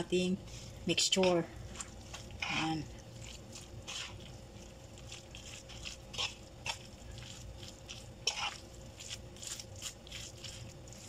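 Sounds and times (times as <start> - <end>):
fork stirring wet batter: 1.0 - 11.0.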